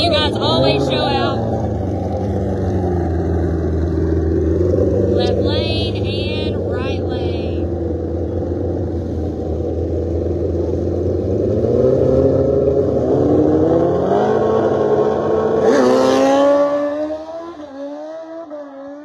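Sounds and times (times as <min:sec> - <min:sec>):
drag racing engines accelerating: 0:00.0 - 0:19.0.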